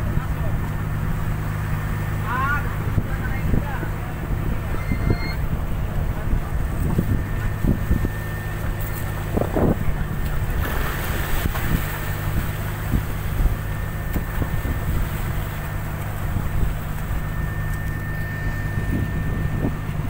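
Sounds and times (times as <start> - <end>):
boat engine humming: 0.0 - 20.0
wind gusting on microphone: 2.6 - 20.0.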